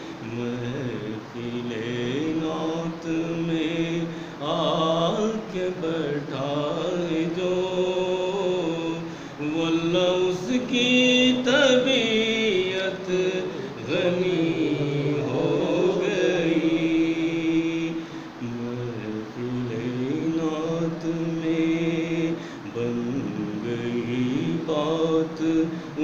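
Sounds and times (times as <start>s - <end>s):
man chanting devotional poem: 0.0s - 26.0s.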